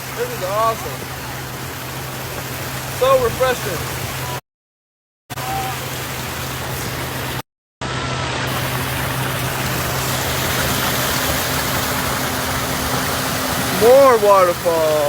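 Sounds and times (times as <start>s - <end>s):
water pouring from pool waterfall: 0.0s - 4.4s, 5.4s - 15.0s.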